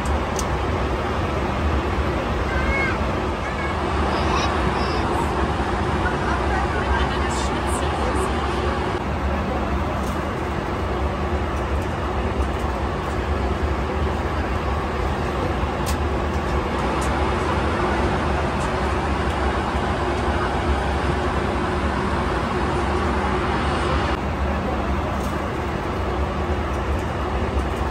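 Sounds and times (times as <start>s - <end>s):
airplane cabin drone: 0.0s - 27.9s.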